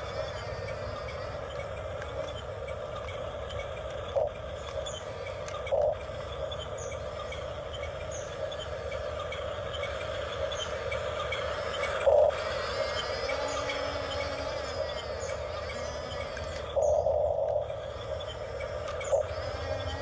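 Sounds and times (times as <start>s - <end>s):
small electric motor humming: 0.0s - 20.0s.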